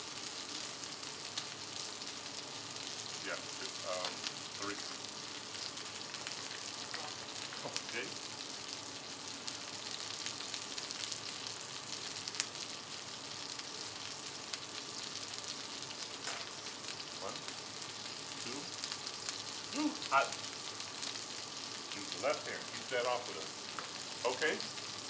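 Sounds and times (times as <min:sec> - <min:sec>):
food sizzling on griddle: 0:00.0 - 0:25.0
fat popping and crackling: 0:01.0 - 0:25.0.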